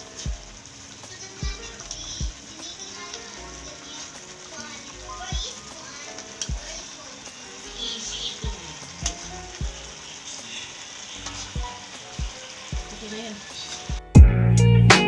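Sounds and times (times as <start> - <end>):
sauce sizzling and bubbling: 0.0 - 14.9
loud guitar and drum music: 0.0 - 15.0.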